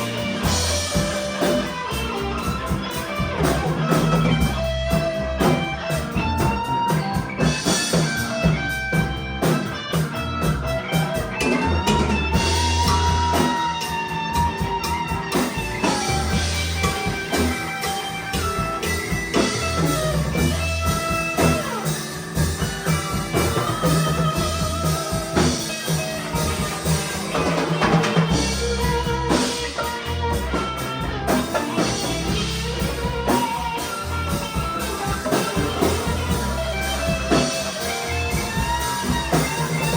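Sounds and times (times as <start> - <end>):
band playing rock blues: 0.0 - 39.9
drum kit beat: 0.0 - 39.9
electric guitar lead: 0.0 - 39.9.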